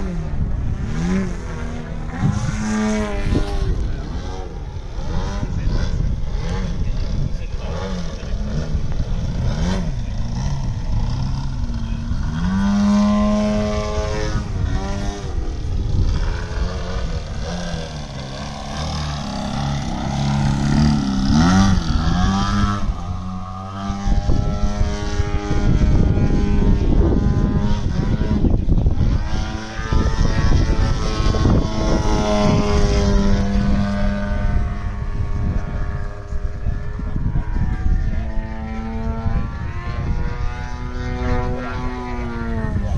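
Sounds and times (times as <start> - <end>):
model airplane propeller engine: 0.0 - 42.9.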